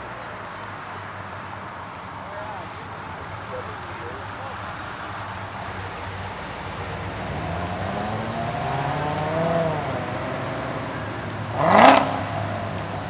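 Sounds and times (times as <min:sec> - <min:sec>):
cars driving past: 0:00.0 - 0:13.0
car engine revving: 0:02.3 - 0:13.0.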